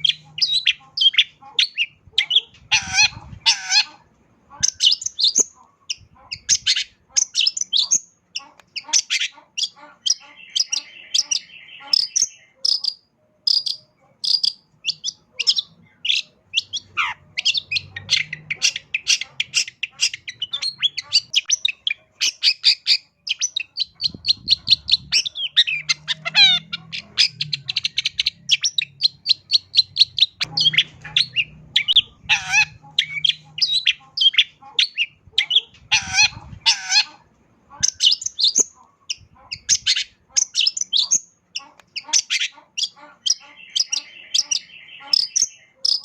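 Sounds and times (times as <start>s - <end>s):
bird singing chattering song: 0.0s - 46.0s.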